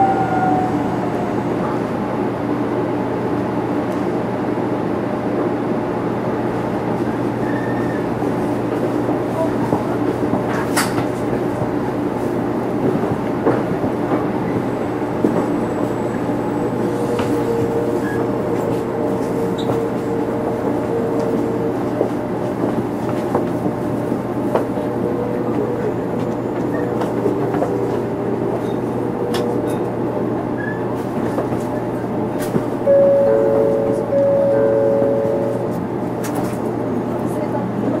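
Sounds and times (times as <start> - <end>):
rumble of train wheels on track: 0.0 - 38.0.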